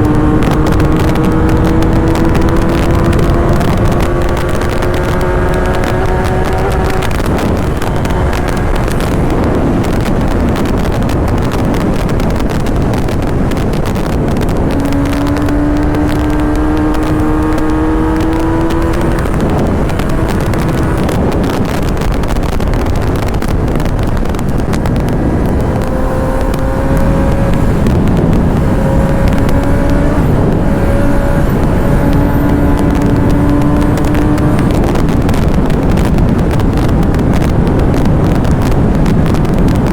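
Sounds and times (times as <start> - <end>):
motorcycle engine pulling at speed: 0.0 - 39.9
wind rush on microphone: 0.0 - 39.9.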